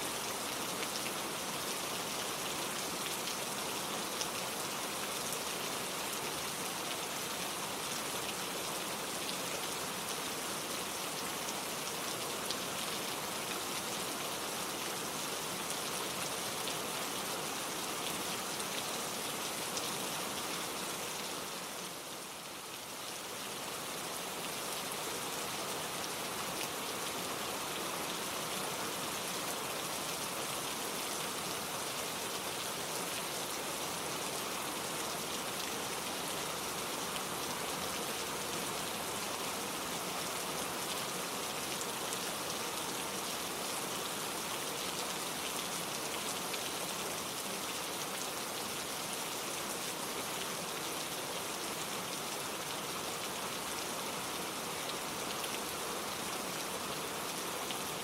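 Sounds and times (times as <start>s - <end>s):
gentle rain pattering: 0.0s - 58.0s.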